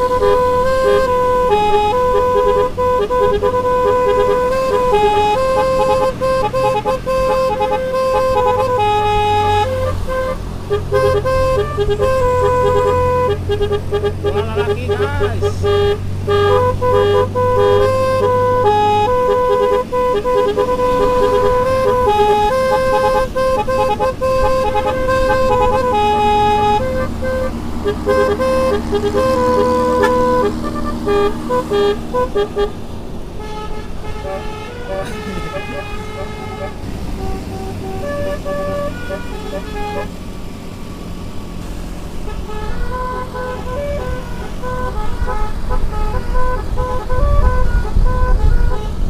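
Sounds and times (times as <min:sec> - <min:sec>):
bus horn trumpets playing a tune: 0:00.0 - 0:40.5, 0:41.1 - 0:49.0
low engine rumble: 0:00.0 - 0:49.0.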